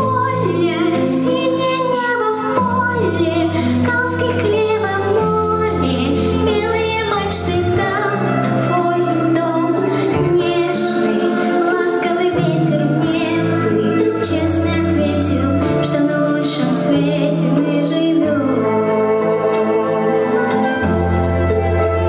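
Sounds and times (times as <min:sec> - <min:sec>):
girl singing: 0:00.0 - 0:20.5.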